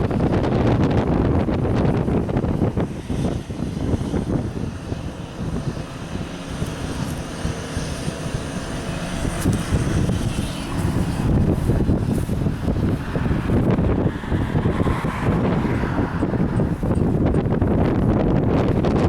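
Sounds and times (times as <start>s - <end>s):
distant engine drone: 0.0s - 19.0s
wind buffeting microphone: 0.0s - 19.0s.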